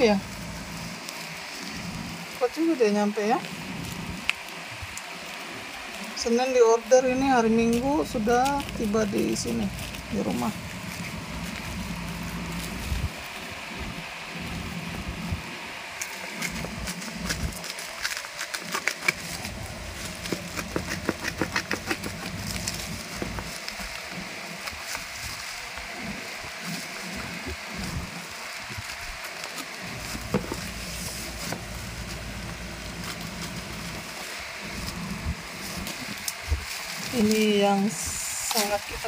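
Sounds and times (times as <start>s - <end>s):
plastic crinkling: 0.0s - 39.0s.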